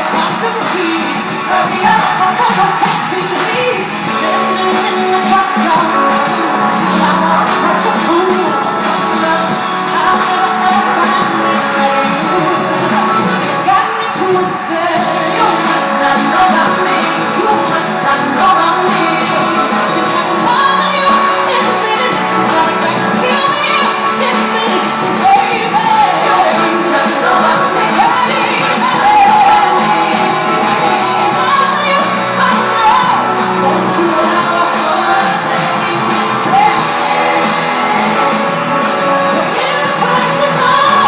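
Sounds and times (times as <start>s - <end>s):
crowd singing and shouting: 0.0s - 41.0s
singer and band performing: 0.0s - 41.0s.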